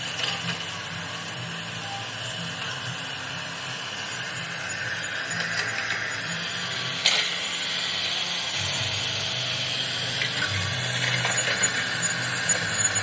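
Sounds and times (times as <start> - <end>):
toy motors and gears whirring: 0.0 - 13.0.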